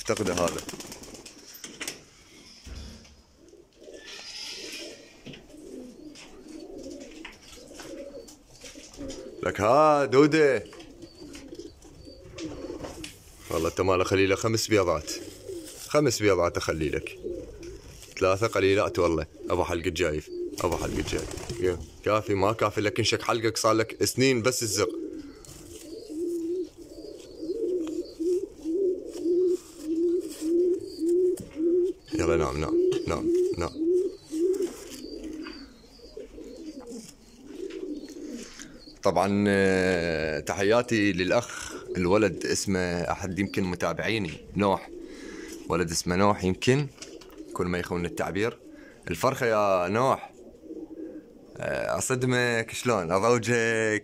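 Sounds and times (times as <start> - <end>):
pigeons cooing: 0.0 - 53.4.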